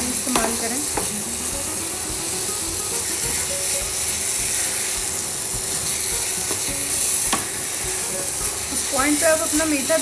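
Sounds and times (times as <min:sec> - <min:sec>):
cheese sizzling in frying pan: 0:00.0 - 0:10.0.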